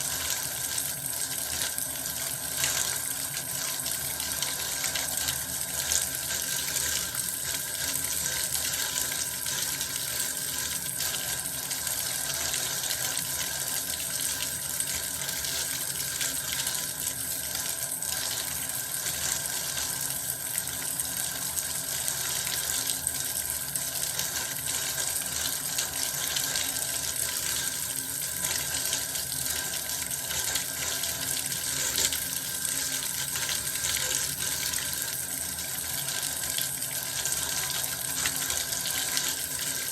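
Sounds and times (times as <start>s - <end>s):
bath water running from tap: 0.0s - 39.9s.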